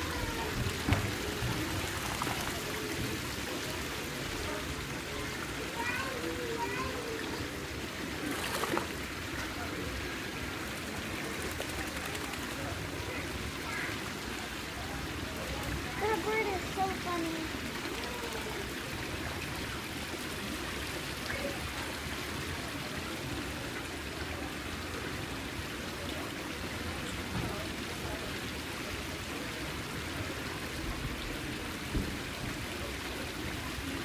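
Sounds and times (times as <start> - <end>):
water running and trickling: 0.0 - 34.0
water splashes: 0.0 - 34.0.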